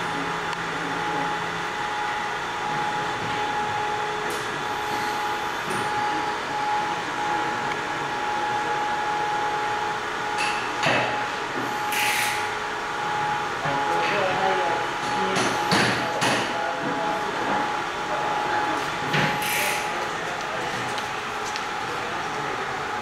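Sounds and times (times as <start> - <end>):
fan whir with hum: 0.0 - 23.0.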